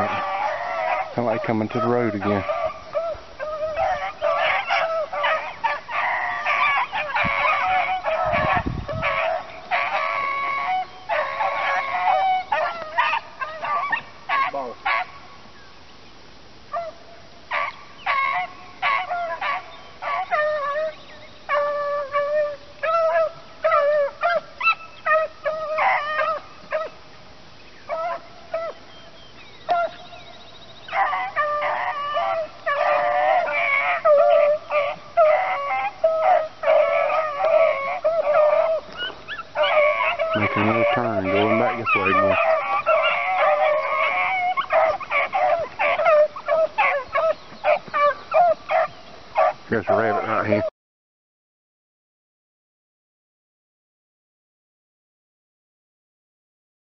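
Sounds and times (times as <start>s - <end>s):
dogs baying and yelping: 0.0s - 15.2s, 16.7s - 27.1s, 27.8s - 50.7s.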